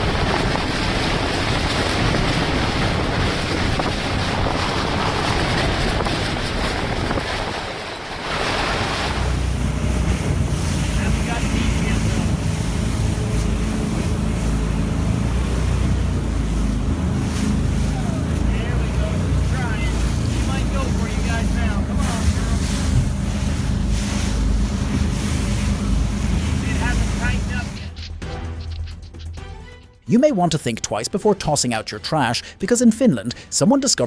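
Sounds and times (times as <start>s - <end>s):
strong wind blasting microphone: 0.0s - 27.9s.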